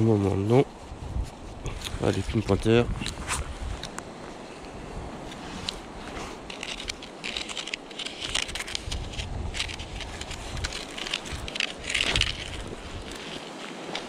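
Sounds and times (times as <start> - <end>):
probe scraping through sand and pebbles: 0.0 - 3.8, 5.2 - 14.0.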